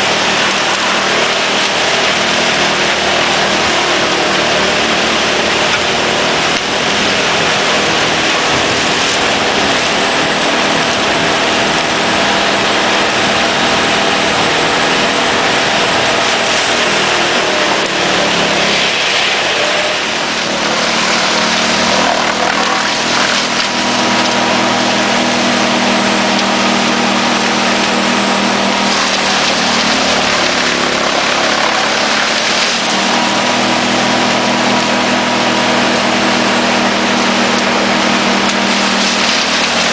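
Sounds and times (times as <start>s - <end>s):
wood chipper chipping wood: 0.0s - 39.9s.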